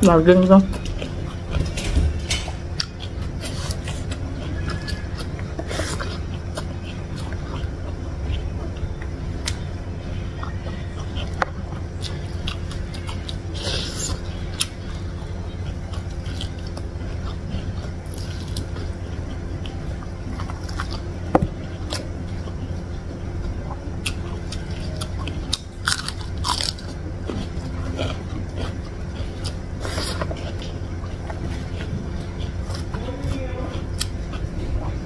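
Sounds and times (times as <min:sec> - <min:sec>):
food crunching: 0:00.0 - 0:35.0
low hum: 0:00.0 - 0:35.0
wet chewing: 0:00.0 - 0:35.0.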